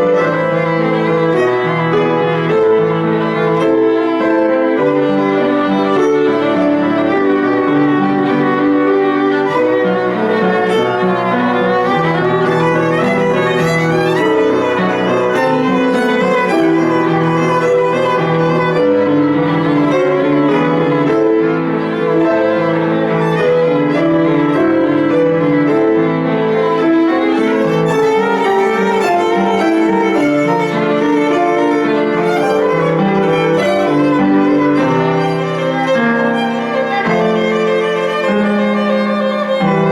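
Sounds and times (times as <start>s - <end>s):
piano accompaniment: 0.0s - 39.9s
solo violin: 0.0s - 39.9s.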